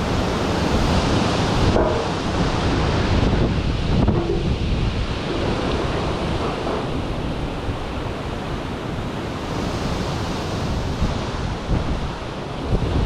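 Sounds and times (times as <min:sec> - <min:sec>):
wind buffeting microphone: 0:00.0 - 0:13.0
wind rushing through leaves: 0:00.0 - 0:13.0.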